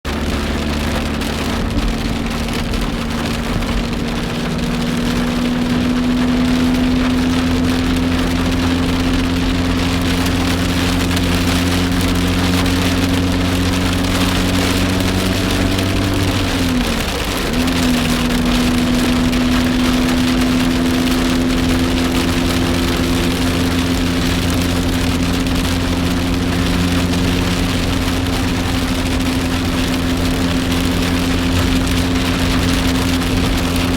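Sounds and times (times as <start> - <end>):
car engine running: 0.0 - 33.9
rain hissing: 0.1 - 33.9.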